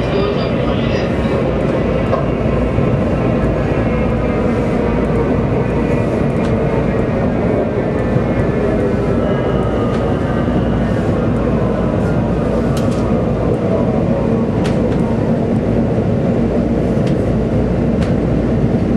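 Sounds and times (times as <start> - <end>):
train rumble: 0.0 - 18.9.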